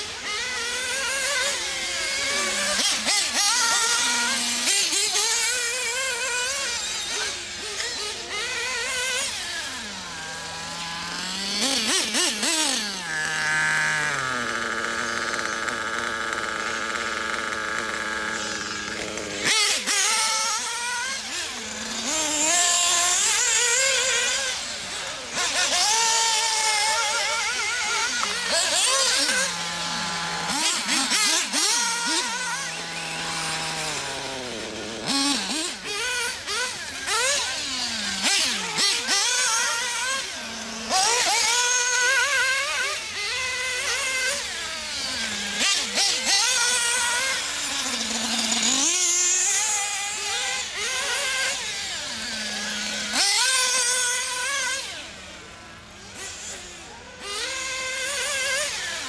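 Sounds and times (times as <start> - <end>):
nitro engine revving and idling: 0.0 - 59.0.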